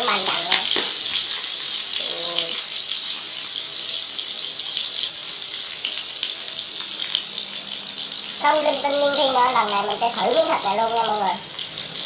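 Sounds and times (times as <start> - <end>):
pork frying in hot oil: 0.0 - 12.0.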